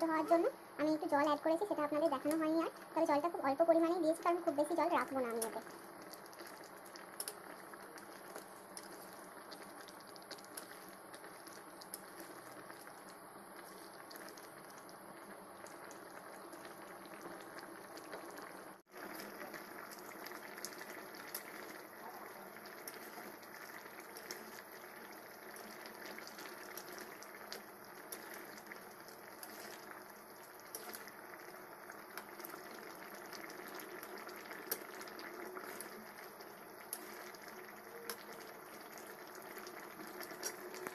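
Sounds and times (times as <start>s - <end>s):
curry bubbling in a pan: 0.0s - 40.9s.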